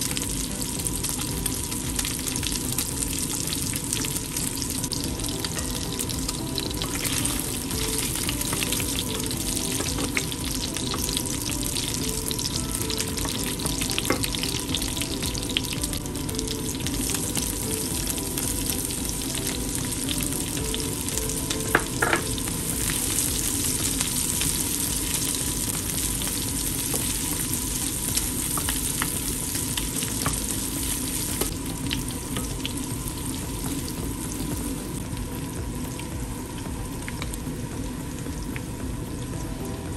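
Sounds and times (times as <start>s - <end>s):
meat sizzling in oil: 0.0s - 39.7s.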